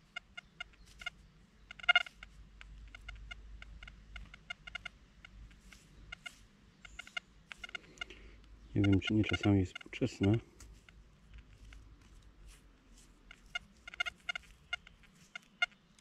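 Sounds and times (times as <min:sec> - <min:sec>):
metal detector chirping blips: 0:00.0 - 0:11.9, 0:13.3 - 0:16.0.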